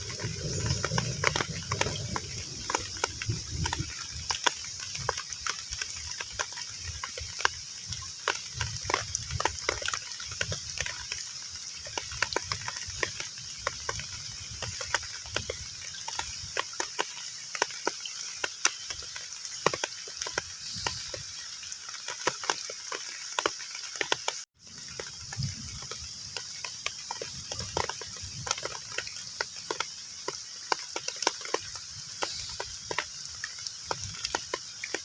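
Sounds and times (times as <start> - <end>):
heavy rain on pond: 0.0 - 35.0.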